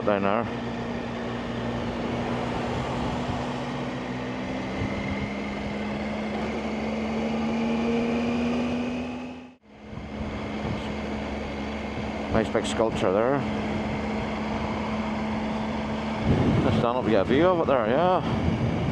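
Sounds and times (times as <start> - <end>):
motorcycle engine cruising: 0.0 - 18.9
wind noise: 0.6 - 7.7, 9.8 - 18.9.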